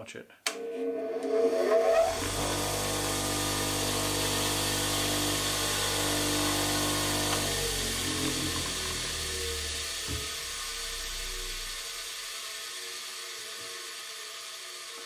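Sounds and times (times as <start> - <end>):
bench grinder motor hum and whine: 0.9 - 15.0.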